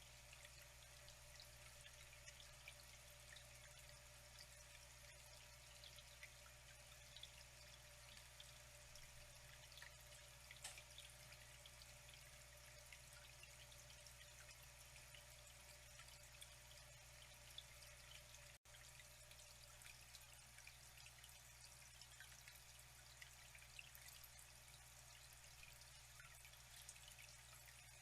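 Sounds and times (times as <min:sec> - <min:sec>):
faint flowing water: 0:00.0 - 0:28.0
small splashes and drips: 0:00.0 - 0:28.0.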